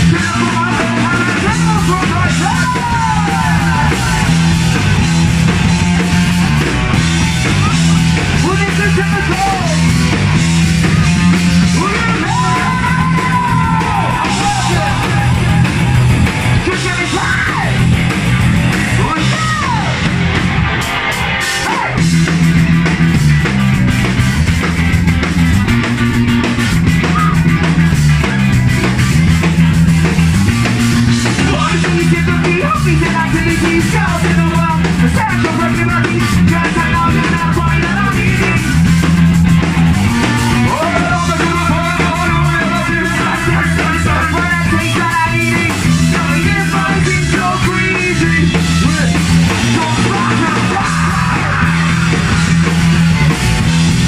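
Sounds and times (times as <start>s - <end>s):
shouted lead vocals: 0.0s - 54.0s
ska-punk band playing live: 0.0s - 54.0s.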